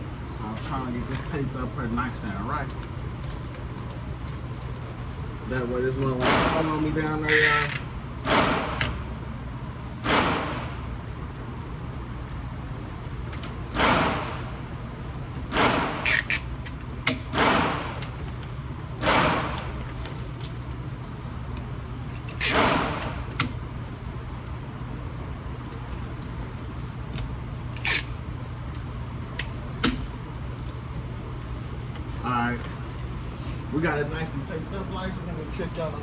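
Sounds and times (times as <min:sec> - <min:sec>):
ventilation hum: 0:00.0 - 0:36.0
small clicks: 0:02.6 - 0:36.0.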